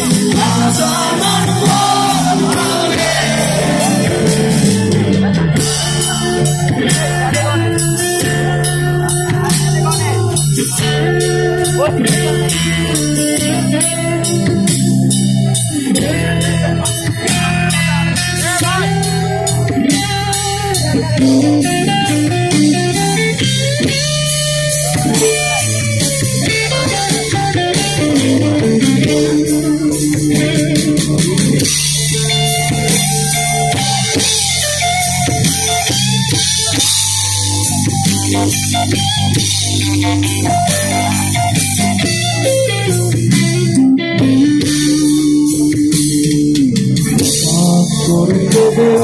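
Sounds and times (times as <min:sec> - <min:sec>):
drum kit with cymbals: 0:00.0 - 0:49.0
electric guitars with bending leads: 0:00.0 - 0:49.0.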